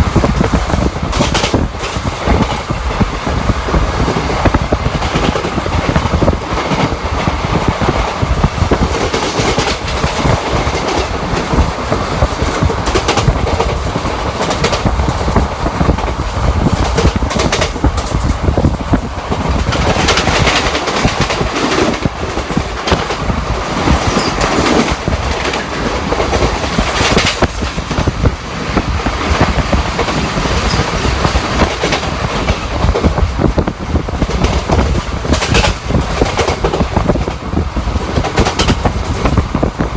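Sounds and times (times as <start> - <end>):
wheel and rail rumble: 0.0 - 39.9
wheels clickety-clack over rail joints: 0.0 - 39.9.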